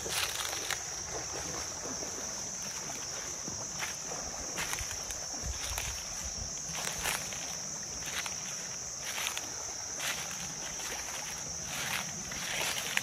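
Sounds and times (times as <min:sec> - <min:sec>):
insects droning: 0:00.0 - 0:13.0
person wading through water: 0:00.0 - 0:13.0
shallow stream rushing: 0:00.0 - 0:13.0.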